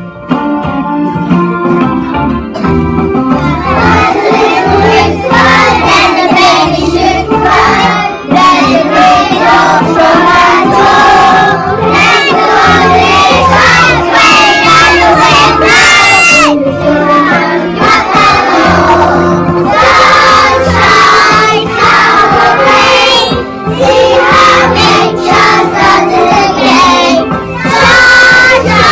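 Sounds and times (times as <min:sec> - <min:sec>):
guitar: 0:00.0 - 0:28.9
instrumental accompaniment: 0:00.0 - 0:28.9
children singing: 0:03.4 - 0:28.9.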